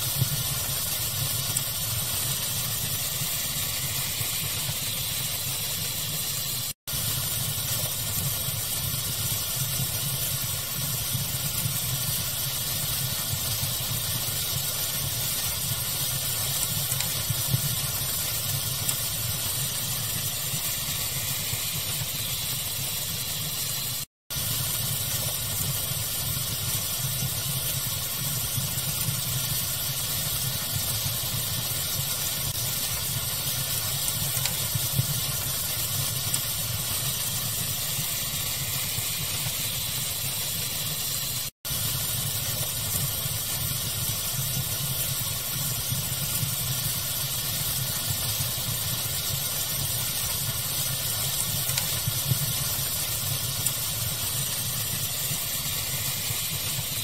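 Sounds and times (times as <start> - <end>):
fire crackling: 0.0 - 57.0
steady pink-noise hiss: 0.0 - 57.0.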